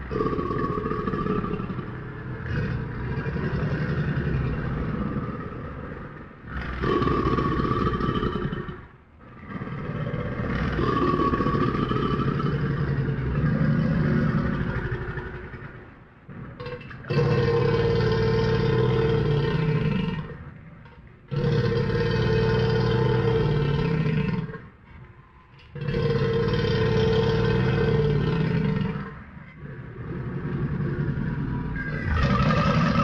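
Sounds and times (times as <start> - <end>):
crocodile growling: 0.0 - 25.0, 25.7 - 33.0.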